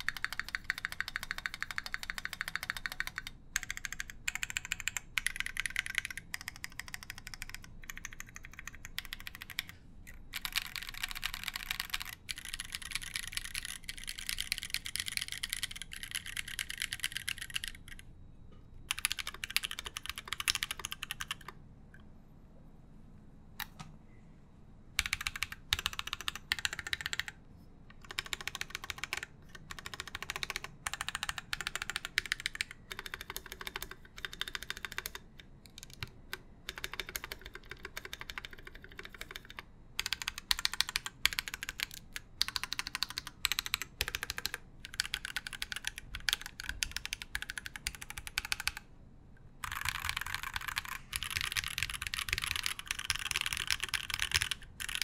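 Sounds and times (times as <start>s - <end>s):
mechanical keyboard typing: 0.0s - 18.0s, 18.9s - 21.6s, 25.0s - 48.9s, 49.6s - 55.0s.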